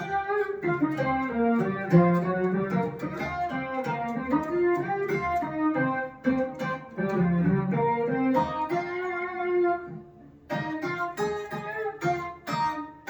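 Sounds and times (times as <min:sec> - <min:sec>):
buzzy synth guitar lead: 0:00.0 - 0:13.0.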